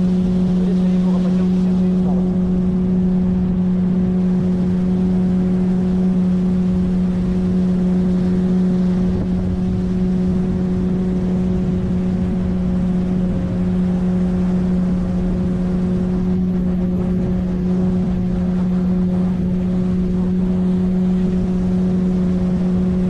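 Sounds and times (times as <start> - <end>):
outboard motor humming: 0.0 - 23.0.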